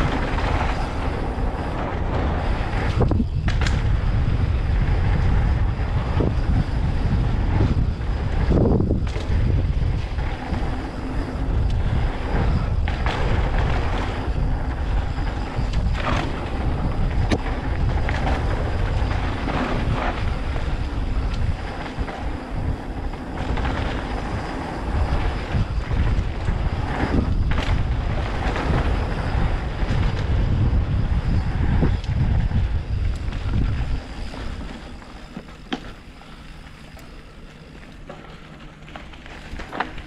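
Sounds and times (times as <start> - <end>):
wind buffeting microphone: 0.0 - 35.7
bike knocks and rattles: 0.0 - 40.0
tyre noise on dirt: 0.0 - 40.0.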